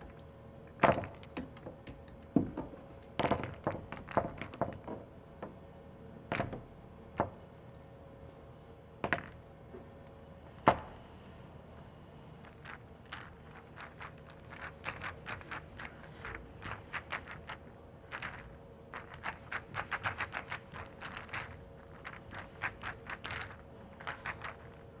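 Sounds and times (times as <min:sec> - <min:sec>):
pool balls clacking: 0:00.0 - 0:05.7, 0:06.3 - 0:07.5, 0:09.0 - 0:09.9, 0:12.5 - 0:25.0.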